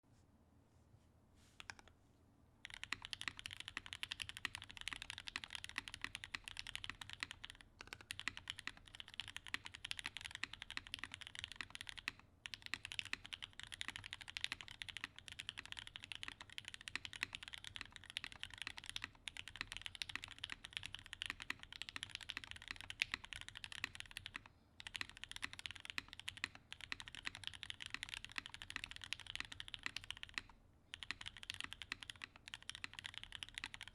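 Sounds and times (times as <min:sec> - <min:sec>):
typing on mechanical keyboard: 0:02.6 - 0:33.9.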